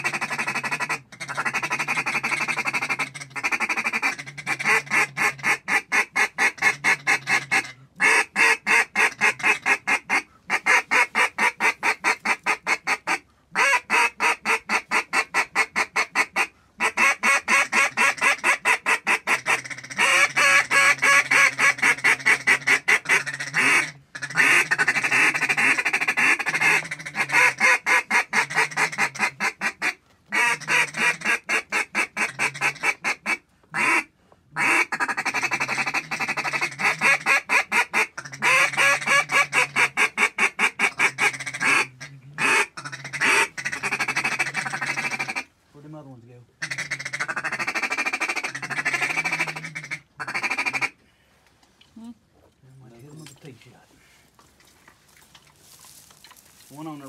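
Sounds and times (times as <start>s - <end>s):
duck calls: 0.0s - 45.5s, 46.6s - 51.0s.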